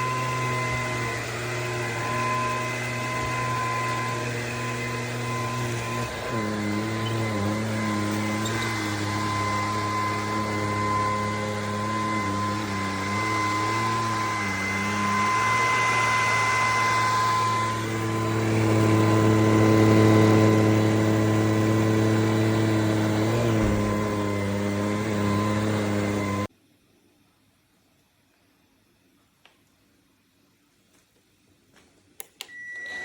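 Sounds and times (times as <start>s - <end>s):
stick vacuum motor whine: 0.0s - 26.5s.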